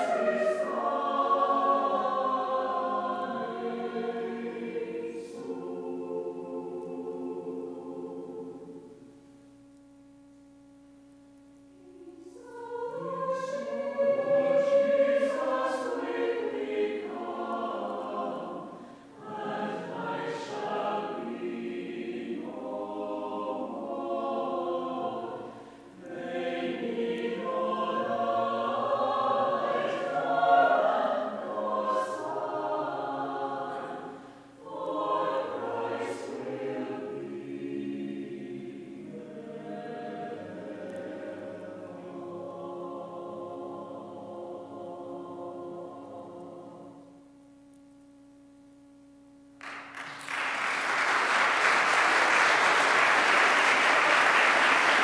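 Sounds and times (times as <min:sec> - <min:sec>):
mixed choir singing: 0:00.0 - 0:09.0, 0:11.8 - 0:47.1, 0:50.3 - 0:55.0.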